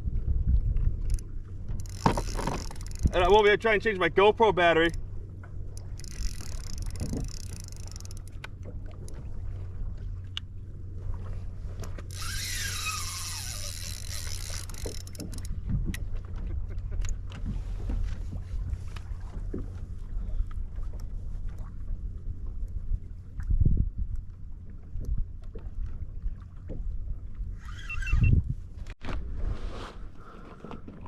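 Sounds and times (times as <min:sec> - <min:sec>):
water noise: 0:00.0 - 0:31.0.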